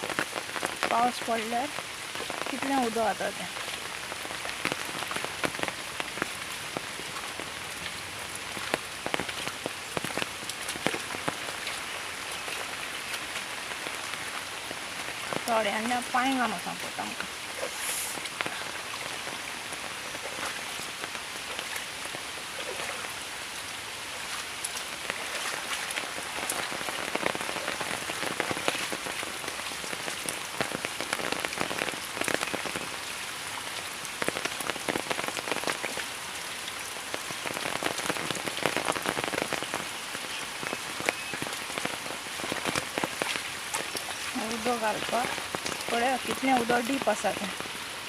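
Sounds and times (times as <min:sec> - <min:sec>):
rain pattering on water: 0:00.0 - 0:48.0.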